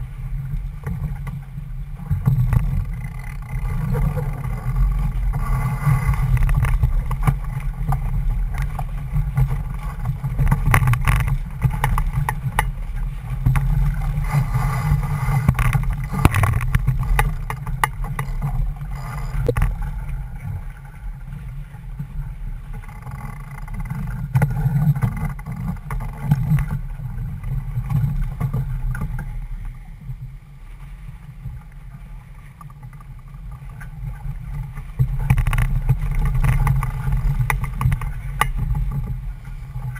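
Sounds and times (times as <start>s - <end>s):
water rushing along a hull: 0.0s - 39.9s
wind noise on microphone: 0.0s - 39.9s.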